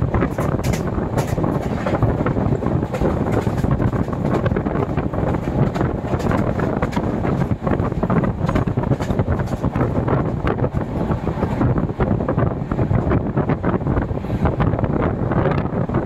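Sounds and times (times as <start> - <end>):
train wheels rumbling on rails: 0.0 - 16.0
wind rushing past microphone: 0.0 - 16.0.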